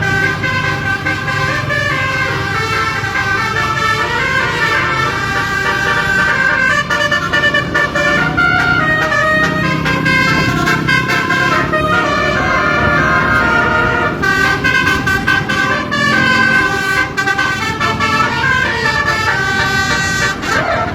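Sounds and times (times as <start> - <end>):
bus engine rumble: 0.0 - 20.9
musical bus horn playing a tune: 0.0 - 20.9.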